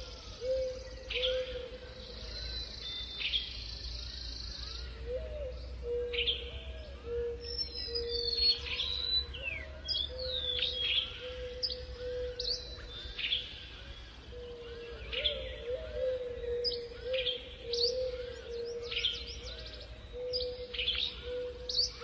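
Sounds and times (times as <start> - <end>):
birds chirping in chorus: 0.0 - 22.0
steady low wavering tone: 0.0 - 22.0.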